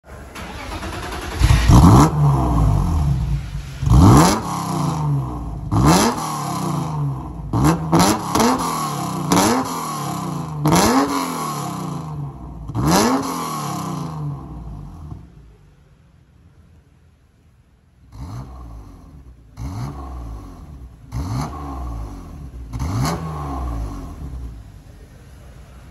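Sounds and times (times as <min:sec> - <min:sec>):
car engine revving: 0:00.1 - 0:15.3, 0:18.1 - 0:25.9.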